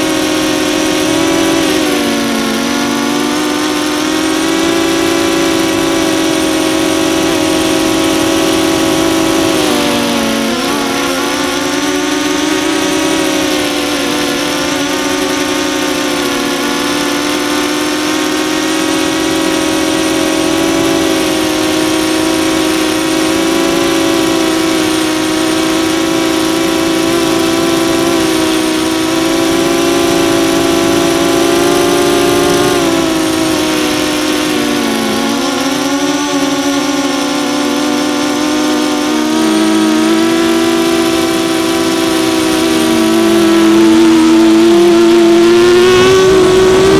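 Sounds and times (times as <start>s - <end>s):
drone motors buzzing: 0.0s - 46.9s.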